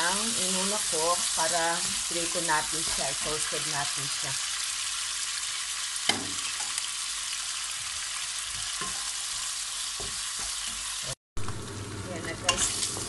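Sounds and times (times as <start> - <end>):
bacon sizzling in a frying pan: 0.0 - 13.0.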